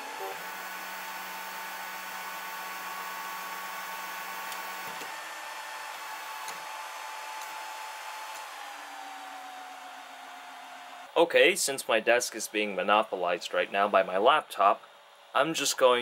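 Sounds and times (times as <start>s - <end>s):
fans whirring with high whine: 0.0s - 16.0s.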